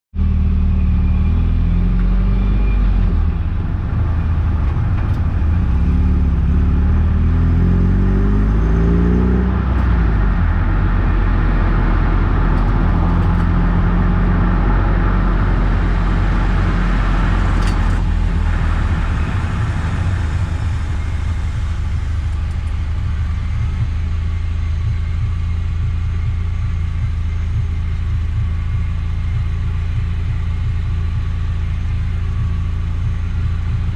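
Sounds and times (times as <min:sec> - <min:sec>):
car engine running: 0:00.2 - 0:33.9
road noise: 0:00.2 - 0:33.9.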